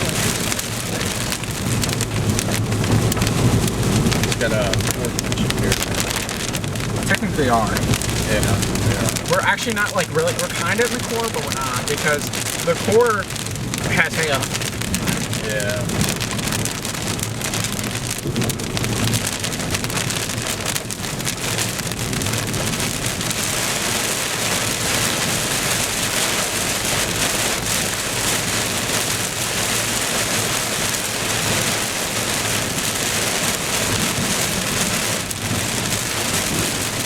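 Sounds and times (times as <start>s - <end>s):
heavy rain drumming on car roof: 0.0s - 37.0s.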